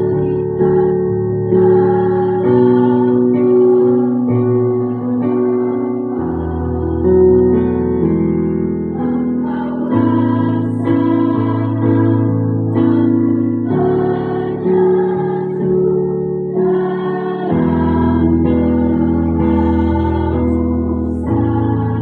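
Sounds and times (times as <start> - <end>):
choir singing a slow hymn: 0.0 - 22.0
keyboard accompaniment: 0.0 - 22.0.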